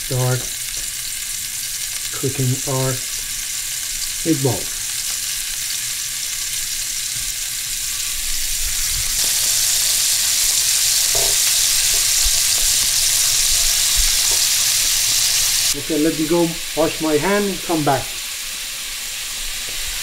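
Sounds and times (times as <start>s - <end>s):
meatballs sizzling in oil: 0.0s - 20.0s.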